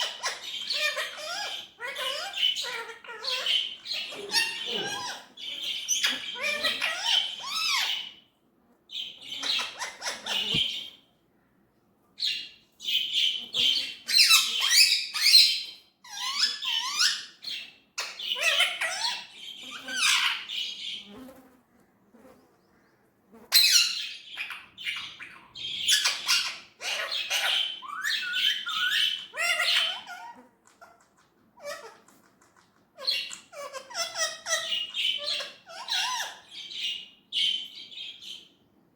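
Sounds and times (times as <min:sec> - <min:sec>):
parrot chattering and squawking: 0:00.0 - 0:08.2, 0:09.0 - 0:10.9, 0:13.1 - 0:17.4, 0:18.0 - 0:20.7, 0:23.5 - 0:38.2.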